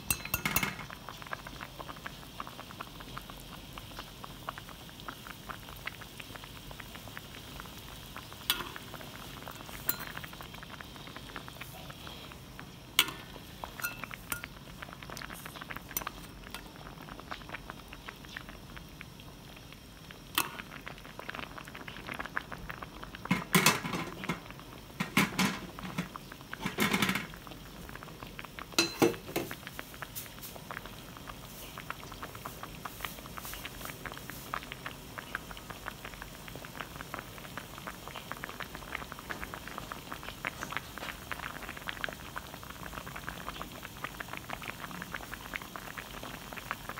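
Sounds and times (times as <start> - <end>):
liquid simmering and bubbling: 0.0 - 46.9.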